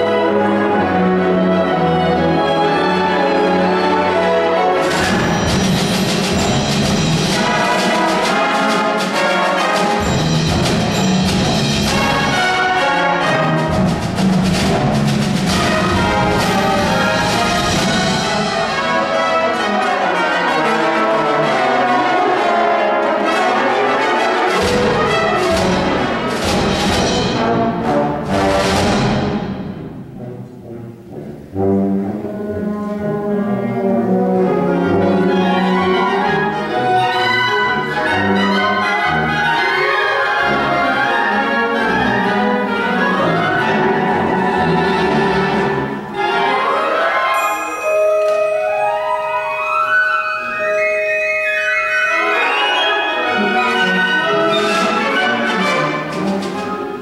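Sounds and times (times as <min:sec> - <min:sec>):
concert wind band playing: 0:00.0 - 0:57.0.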